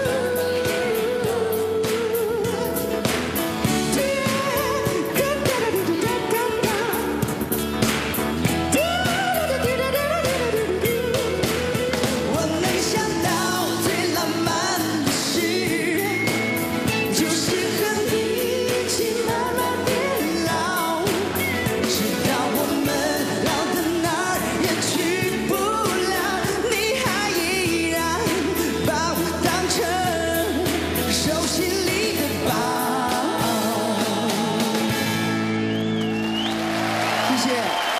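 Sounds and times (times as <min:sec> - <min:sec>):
man singing pop song: 0:00.0 - 0:07.6, 0:08.6 - 0:35.3
instrumental accompaniment: 0:00.0 - 0:37.2.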